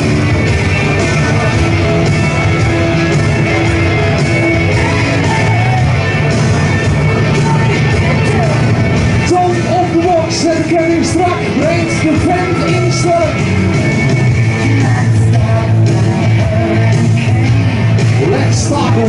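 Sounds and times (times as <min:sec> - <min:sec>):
low drone: 0:00.0 - 0:19.0
rock song over loudspeakers: 0:00.0 - 0:19.0.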